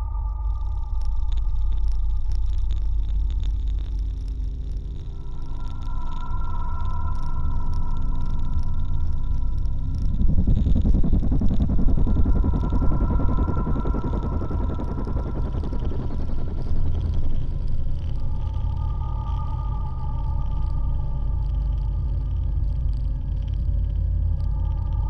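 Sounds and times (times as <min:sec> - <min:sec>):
deep steady rumble: 0:00.0 - 0:25.0.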